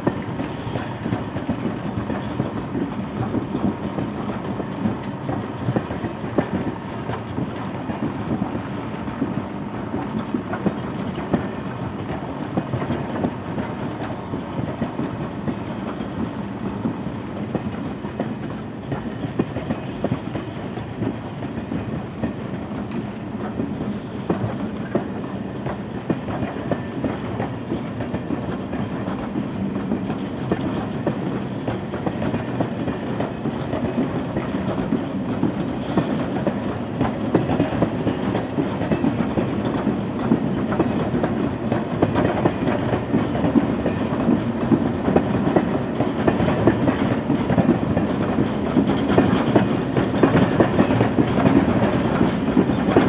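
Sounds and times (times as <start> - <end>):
train wheels rumbling: 0.0 - 53.0
wheels clacking over rail joints: 0.0 - 53.0.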